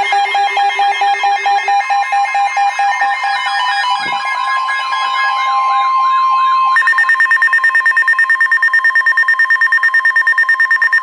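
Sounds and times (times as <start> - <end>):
rapid two-tone beeping: 0.0 - 5.6, 6.7 - 11.0
steady high tone: 0.0 - 11.0
warbling siren: 0.0 - 11.0.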